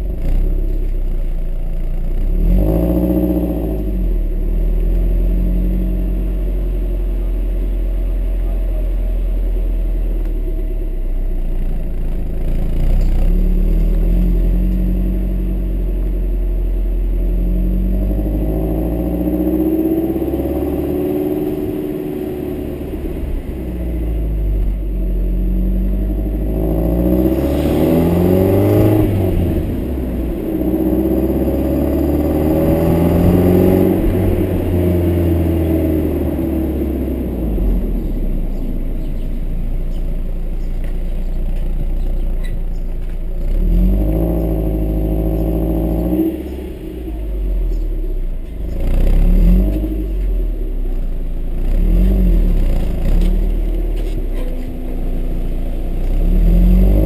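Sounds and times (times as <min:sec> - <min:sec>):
car exhaust drone: 0:00.0 - 0:57.0.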